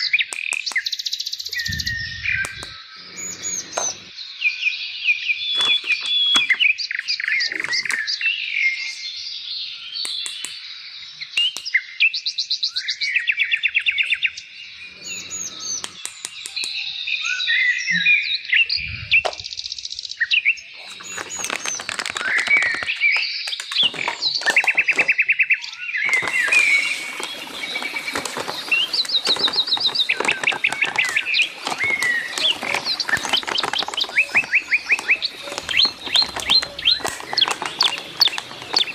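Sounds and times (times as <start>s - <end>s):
birds chirping and trilling: 0.0s - 38.9s.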